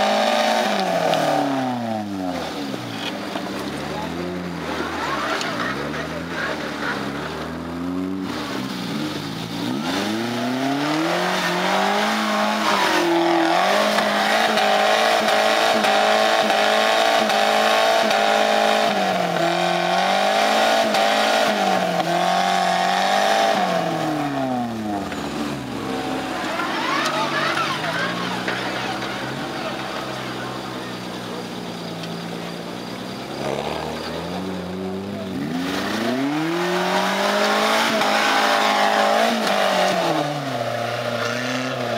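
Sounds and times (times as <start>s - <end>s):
engine revving hard: 0.0s - 2.6s, 4.0s - 30.5s, 33.2s - 41.9s.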